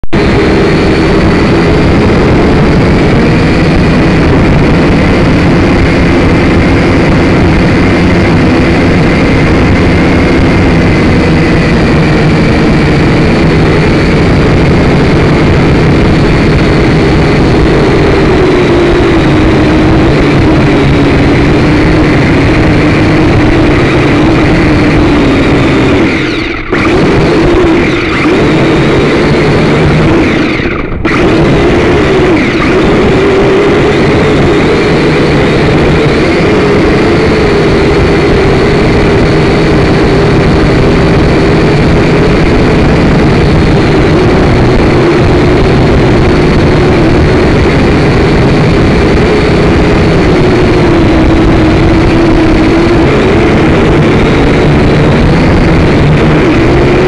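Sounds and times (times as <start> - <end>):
quadcopter propellers buzzing: 0.0 - 57.0.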